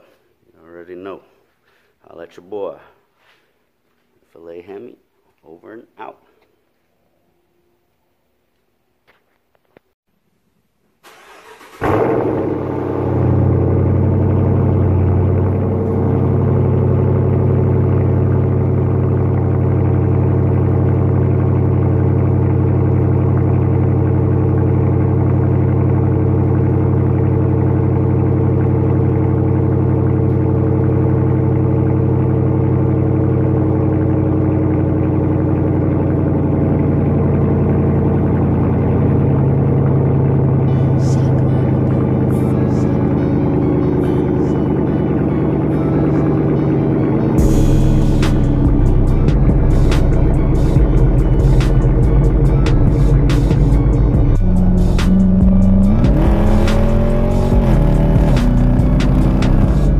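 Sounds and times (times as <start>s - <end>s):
car engine starting and idling: 11.0s - 59.9s.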